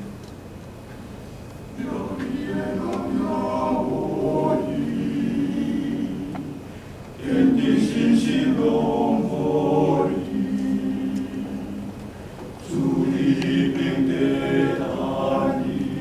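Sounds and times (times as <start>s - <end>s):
male choir singing a hymn: 1.8s - 16.0s.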